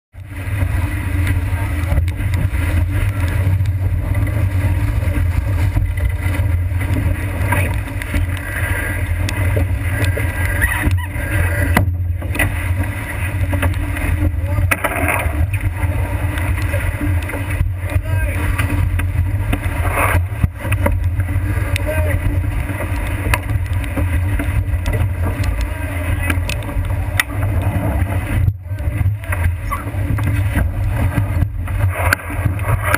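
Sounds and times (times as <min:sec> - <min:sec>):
wind rumble: 0:00.1 - 0:32.9
rushing water: 0:00.2 - 0:32.9.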